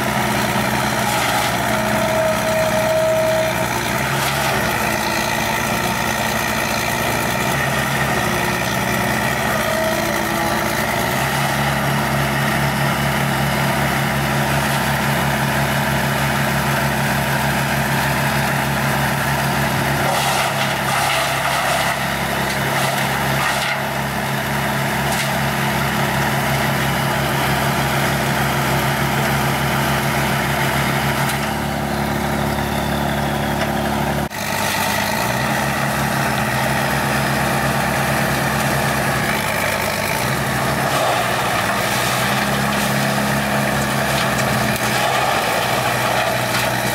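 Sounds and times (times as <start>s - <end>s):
diesel machinery running under load: 0.0s - 46.9s.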